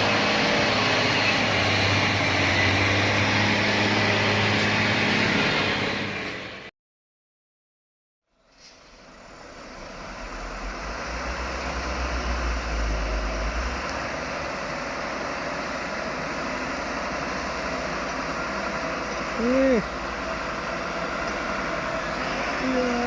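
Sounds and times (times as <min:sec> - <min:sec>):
truck diesel engine rumbling: 0:00.0 - 0:06.7, 0:08.4 - 0:23.0.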